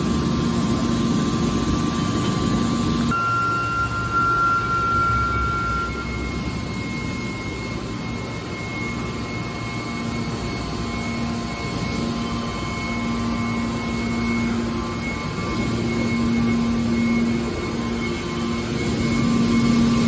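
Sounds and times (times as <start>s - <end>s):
hydraulic baler humming and whining: 0.0s - 20.0s.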